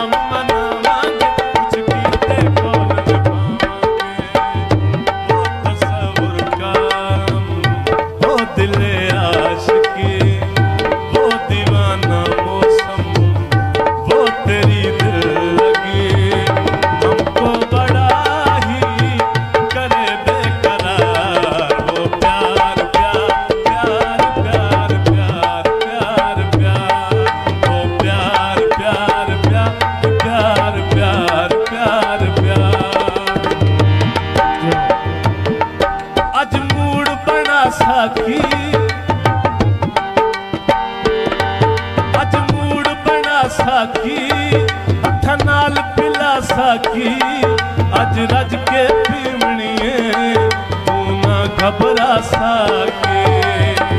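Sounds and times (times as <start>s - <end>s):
hand drum rhythm: 0.0s - 53.9s
melodic folk instruments: 0.0s - 53.9s.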